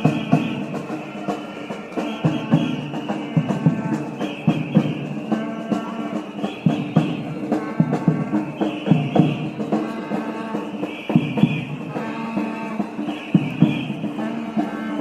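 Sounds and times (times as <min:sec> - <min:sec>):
drum-led music: 0:00.0 - 0:15.0.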